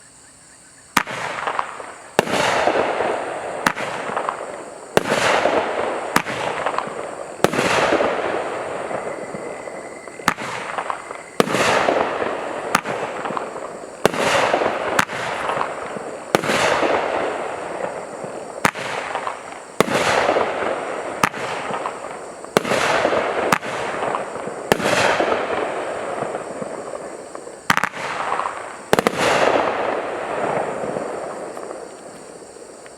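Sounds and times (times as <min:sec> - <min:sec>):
firework shots banging: 0:01.0 - 0:32.2
hissing firework tails: 0:01.0 - 0:32.9.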